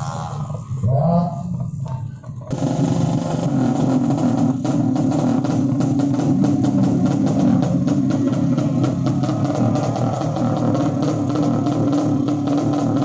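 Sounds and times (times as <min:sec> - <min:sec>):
motorcycle engines revving: 0:00.0 - 0:13.0
music with drum beat: 0:01.8 - 0:13.0.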